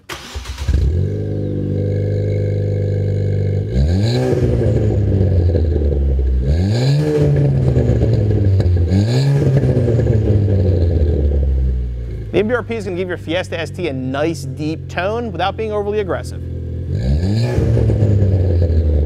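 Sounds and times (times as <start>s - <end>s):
car engine starting and idling: 0.0s - 19.0s
car engine revving: 0.1s - 19.0s.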